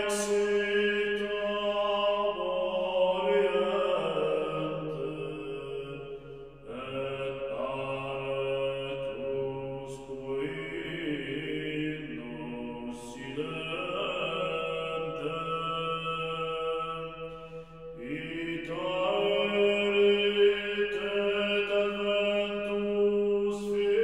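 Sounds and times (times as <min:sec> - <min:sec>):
slow chanting music: 0:00.0 - 0:24.0.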